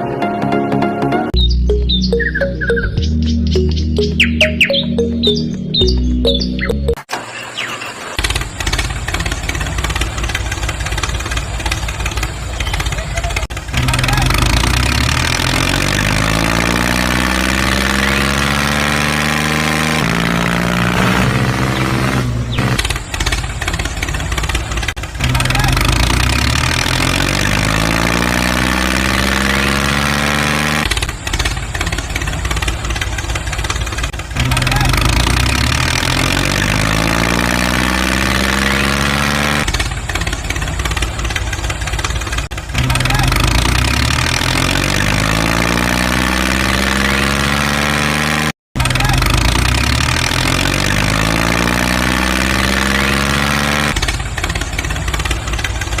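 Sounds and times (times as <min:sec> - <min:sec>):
small engine revving: 0:07.1 - 0:56.0.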